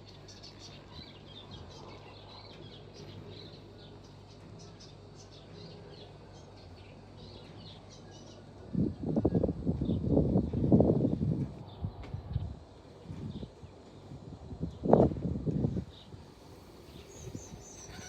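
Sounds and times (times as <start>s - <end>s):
low hum: 0.0s - 18.0s
small birds chirping: 0.0s - 18.0s.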